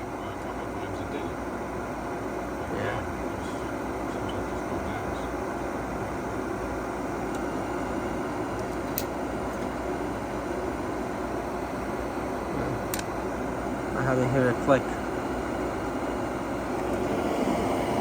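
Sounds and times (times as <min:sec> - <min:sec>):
draft inducer motor whirring hum: 0:00.0 - 0:18.0.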